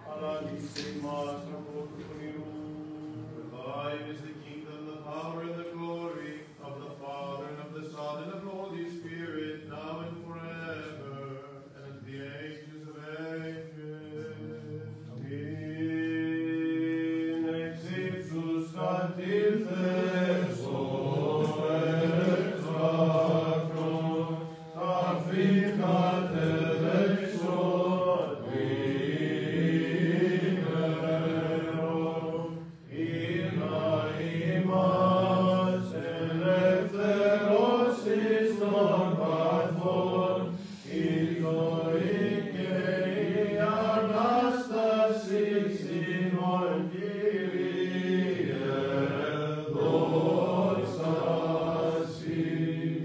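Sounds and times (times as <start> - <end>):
voices chanting a slow melody: 0.0 - 53.0
low vocal drone: 8.5 - 53.0.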